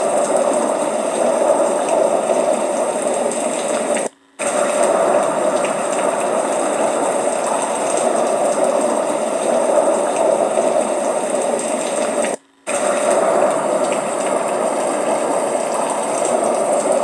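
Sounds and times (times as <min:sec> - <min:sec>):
floodwater roaring: 0:00.0 - 0:17.0.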